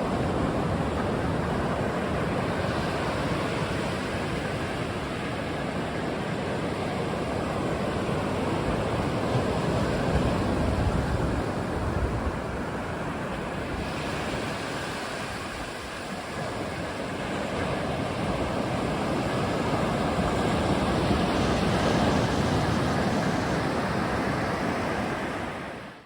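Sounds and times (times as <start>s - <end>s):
wind buffeting microphone: 0.0s - 25.6s
ocean surf washing onto shore: 0.0s - 26.0s.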